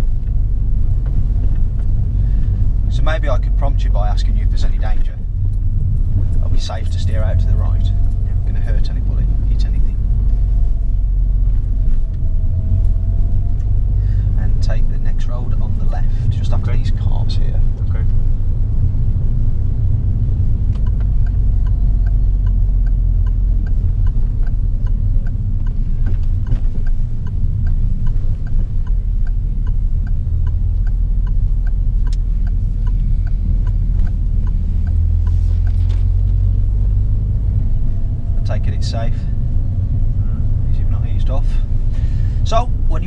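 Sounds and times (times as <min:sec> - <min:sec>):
car cabin road rumble: 0:00.0 - 0:43.0
turn signal ticking: 0:00.0 - 0:43.0.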